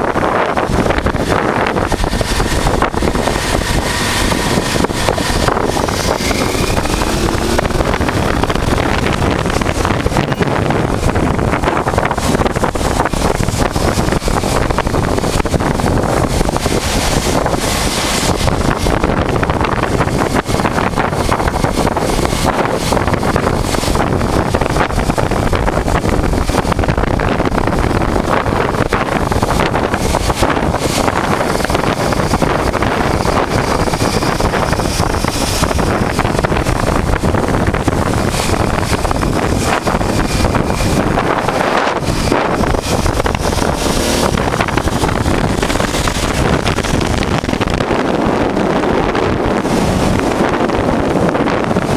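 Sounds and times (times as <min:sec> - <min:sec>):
motorcycle engine: 0:00.0 - 0:51.9
road noise: 0:00.0 - 0:51.9
wind rushing over microphone: 0:00.0 - 0:51.9.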